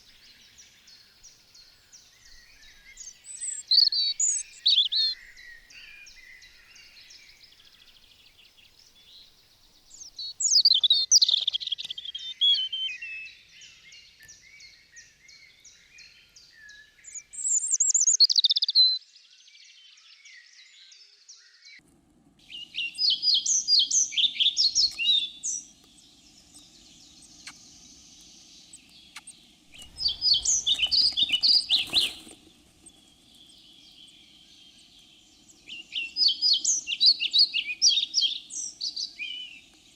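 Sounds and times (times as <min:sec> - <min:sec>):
songbird trilling: 0:00.0 - 0:07.9, 0:09.9 - 0:19.0, 0:22.5 - 0:39.6.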